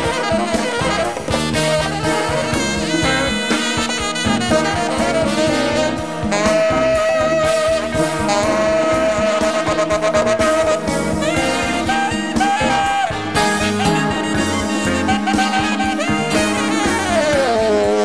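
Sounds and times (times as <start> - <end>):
jazz orchestra playing: 0.0 - 18.0
long held horn note: 0.0 - 18.0.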